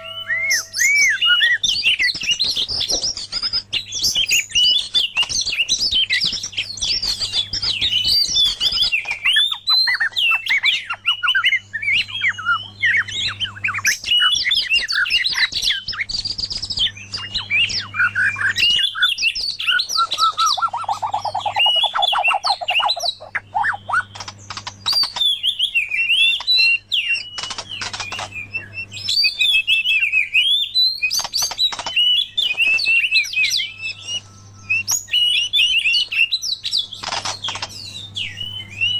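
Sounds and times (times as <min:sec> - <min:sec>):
songbirds whistling and trilling: 0:00.0 - 0:38.9.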